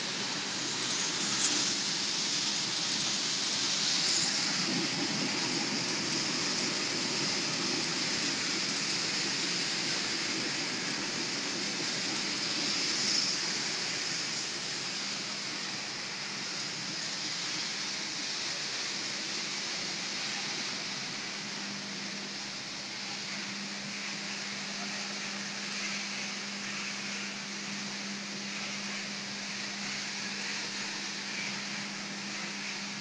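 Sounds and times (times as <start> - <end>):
machinery hiss: 0.0 - 33.0.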